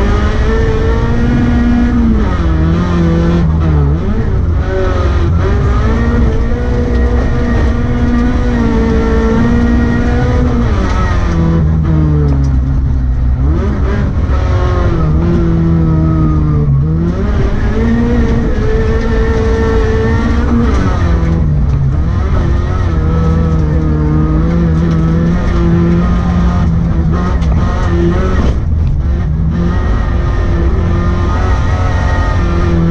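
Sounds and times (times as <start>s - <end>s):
deep rumble: 0.0s - 32.9s
rally car engine revving: 0.0s - 32.9s.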